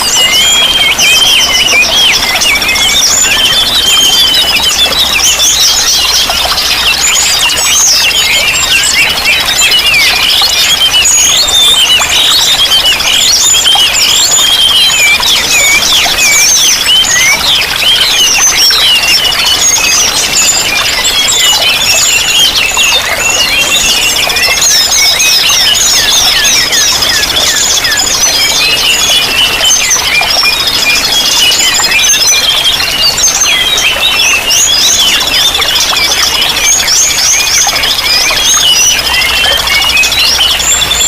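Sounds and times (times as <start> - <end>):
running water rushing: 0.0 - 41.0
songbirds chirping and twittering: 0.0 - 41.0.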